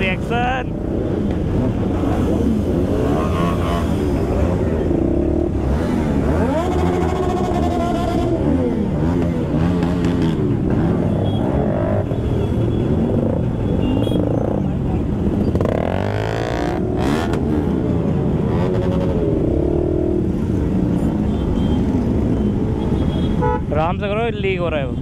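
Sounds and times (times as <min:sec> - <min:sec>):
motorcycle engines idling and revving: 0:00.0 - 0:25.0.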